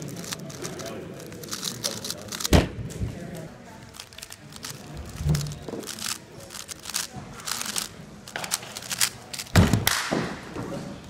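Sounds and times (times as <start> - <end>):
puzzle cube clicking: 0.0 - 2.7, 3.3 - 10.1.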